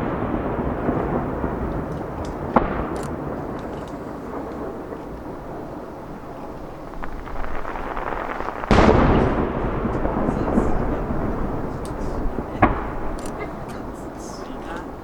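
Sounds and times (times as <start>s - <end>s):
fireworks bangs: 0.0s - 15.0s
loud firework boom echoing: 0.0s - 15.0s.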